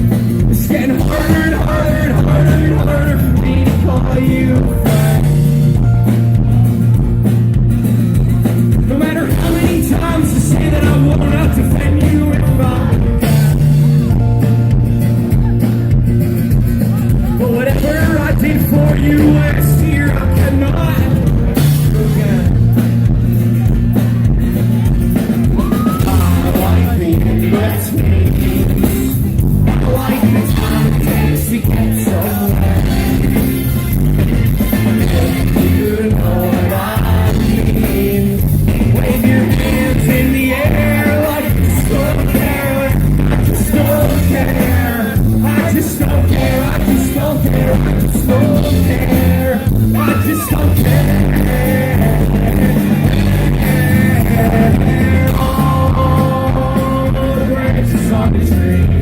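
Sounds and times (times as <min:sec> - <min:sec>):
rock band playing live: 0:00.0 - 0:59.0
person singing: 0:00.5 - 0:05.8, 0:08.9 - 0:14.4, 0:16.9 - 0:22.9, 0:24.8 - 0:28.9, 0:29.7 - 0:33.6, 0:34.8 - 0:59.0.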